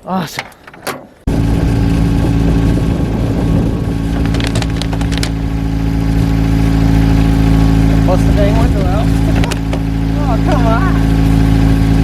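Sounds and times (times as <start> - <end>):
car engine idling: 1.3 - 12.0.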